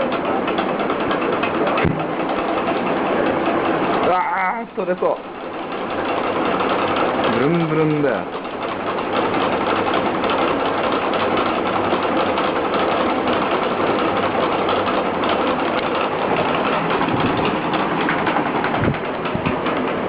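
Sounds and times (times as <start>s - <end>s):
ceiling fan mechanical noise: 0.0s - 20.0s.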